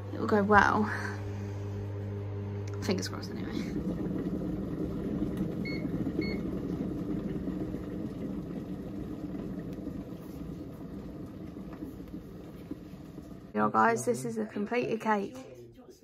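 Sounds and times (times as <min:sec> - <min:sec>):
appliance humming: 0:00.0 - 0:16.0.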